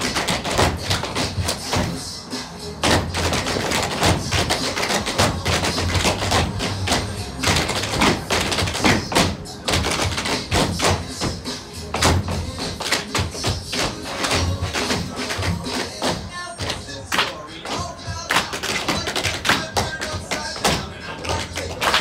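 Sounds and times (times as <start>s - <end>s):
tap shoes striking stage floor: 0.0s - 2.0s, 2.8s - 22.0s
recorded music with low bass: 0.0s - 22.0s.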